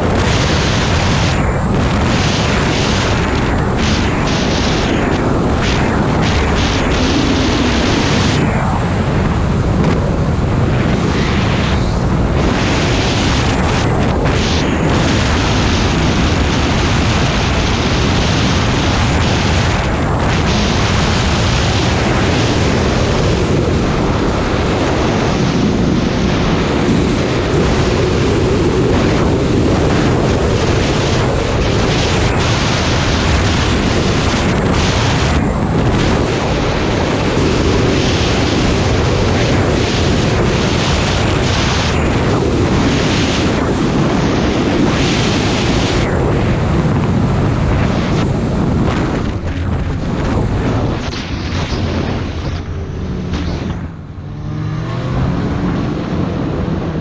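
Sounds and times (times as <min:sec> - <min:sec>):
snowmobile engine running: 0:00.0 - 0:57.0
wind rushing over microphone: 0:00.0 - 0:57.0.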